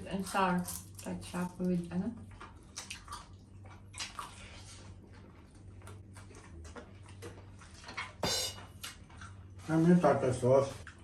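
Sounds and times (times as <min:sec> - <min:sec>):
chewing and wet mouth sounds: 0:00.0 - 0:11.0.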